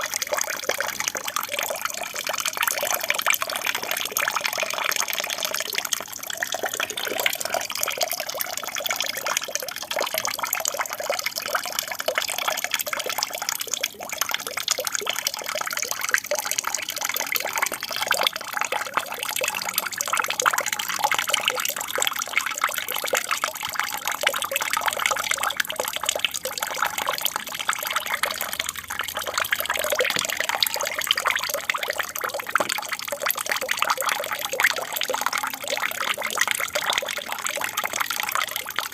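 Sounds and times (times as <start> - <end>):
water splashing and trickling: 0.0 - 38.9.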